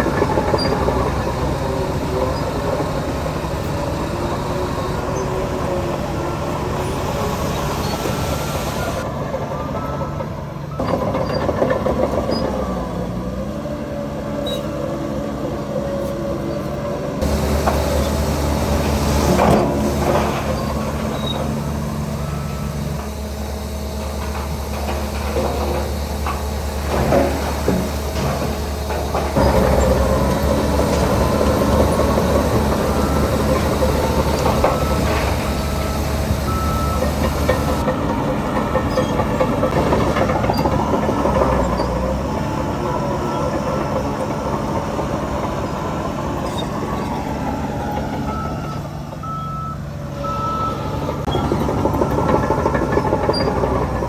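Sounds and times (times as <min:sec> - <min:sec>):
metallic squeals of tracks: 0:00.0 - 0:13.0, 0:14.4 - 0:14.9, 0:16.0 - 0:37.9, 0:38.5 - 0:44.8, 0:45.5 - 0:54.0
heavy diesel machinery engines: 0:00.0 - 0:54.0.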